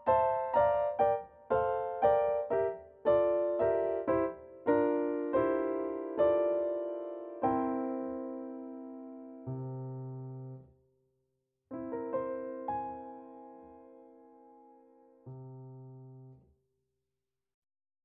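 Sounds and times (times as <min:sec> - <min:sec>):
solo piano melody: 0:00.0 - 0:10.8, 0:11.7 - 0:16.4.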